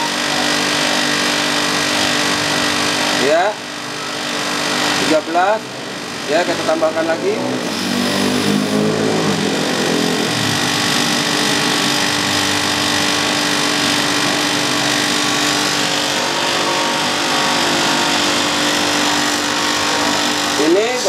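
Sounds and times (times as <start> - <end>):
compressor hum: 0.0 - 21.0.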